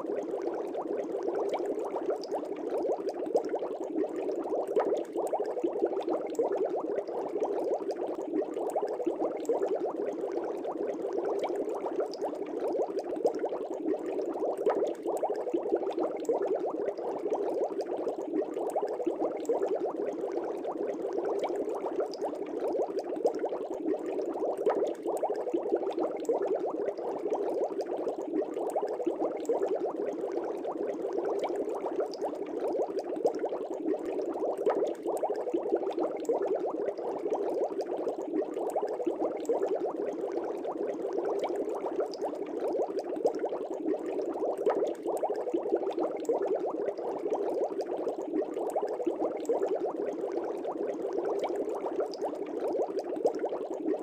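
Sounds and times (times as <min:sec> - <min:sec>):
aquarium bubbling: 0:00.0 - 0:54.0.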